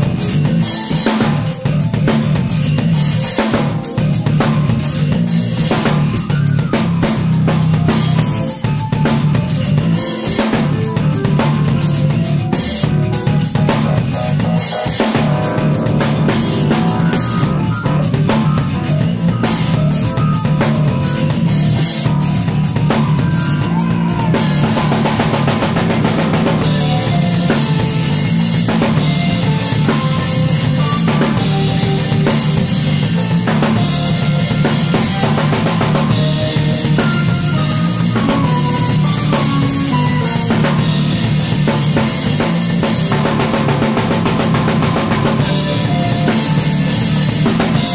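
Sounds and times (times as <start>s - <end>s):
drum kit playing: 0.0s - 47.9s
electric bass line: 0.0s - 47.9s.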